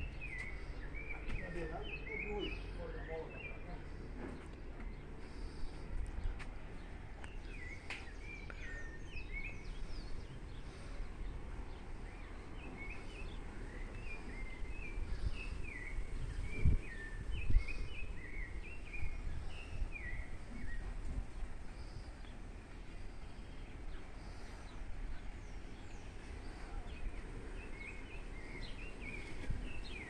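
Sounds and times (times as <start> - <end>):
low microphone rumble: 0.0 - 30.0.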